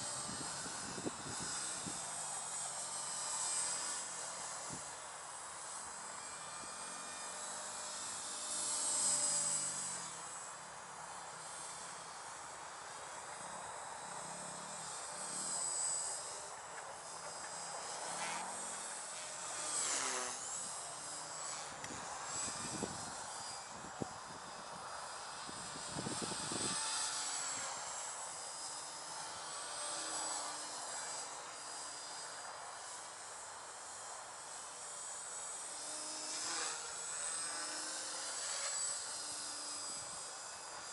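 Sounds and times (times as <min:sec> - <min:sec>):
rc helicopter whine: 0:00.0 - 0:40.9.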